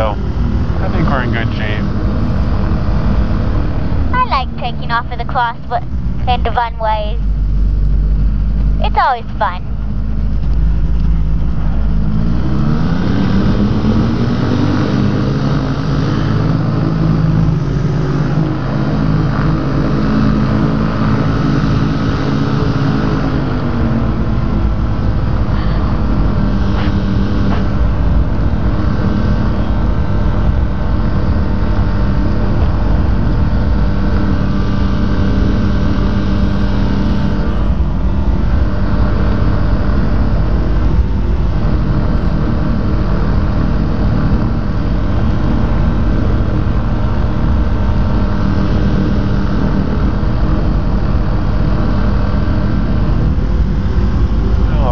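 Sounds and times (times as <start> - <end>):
aircraft engine at takeoff power: 0.0 - 54.9.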